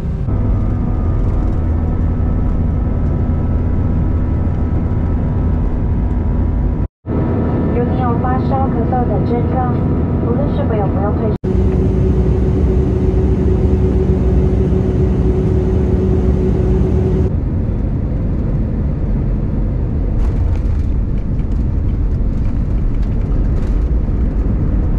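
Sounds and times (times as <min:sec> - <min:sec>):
airliner cabin rumble: 0:00.0 - 0:24.9
low hum: 0:00.0 - 0:24.9.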